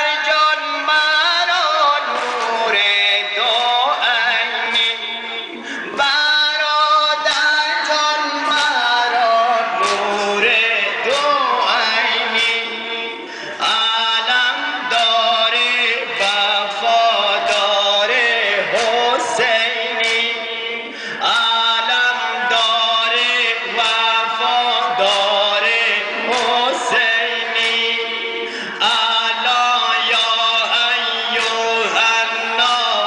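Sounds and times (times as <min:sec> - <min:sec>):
man chanting into a microphone: 0:00.0 - 0:33.0
sharp rhythmic strikes: 0:00.2 - 0:33.0.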